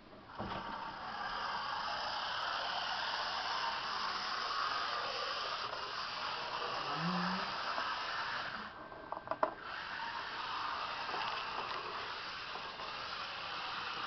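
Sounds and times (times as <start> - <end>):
model railcar motor whirring: 0.0 - 14.0.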